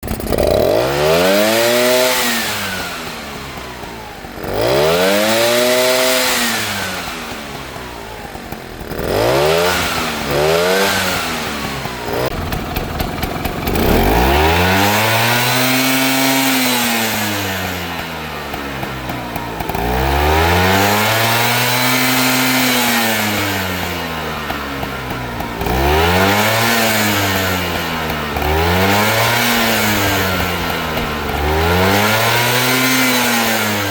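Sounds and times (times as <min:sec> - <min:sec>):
engine rattling clatter: 0:00.0 - 0:33.9
scooter engine revving: 0:00.0 - 0:33.9.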